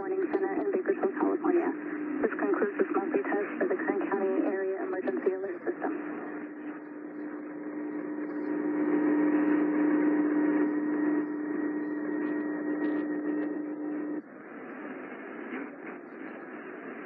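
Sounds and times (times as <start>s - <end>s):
radio static: 0.0s - 14.2s
radio hum-like tone: 0.0s - 17.0s.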